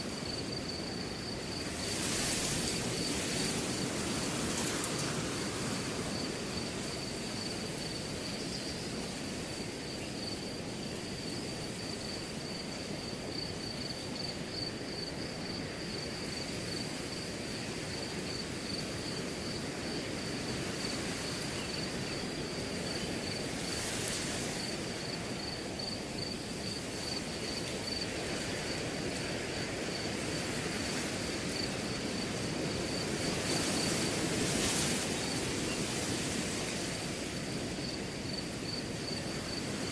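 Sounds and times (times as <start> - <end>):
cricket trilling: 0.0 - 39.9
wind rustling grass: 0.0 - 39.9.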